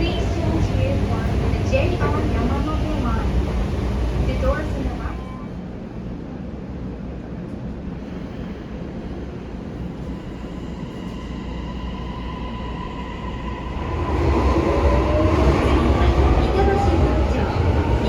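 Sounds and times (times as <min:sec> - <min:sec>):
electric train low hum: 0:00.0 - 0:18.0.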